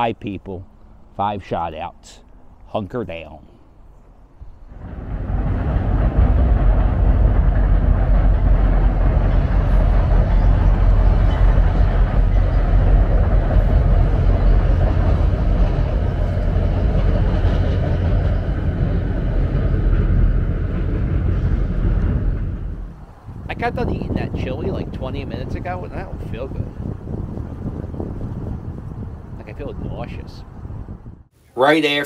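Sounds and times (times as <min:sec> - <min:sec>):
train rumbling over bridge: 0:03.8 - 0:31.3.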